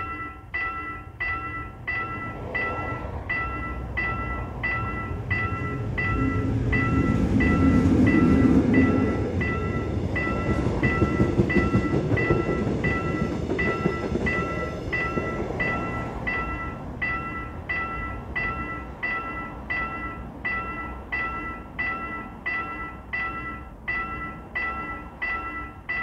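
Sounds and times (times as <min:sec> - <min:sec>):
level-crossing warning bell: 0:00.0 - 0:26.0
train wheels rumbling on rails: 0:00.0 - 0:26.0.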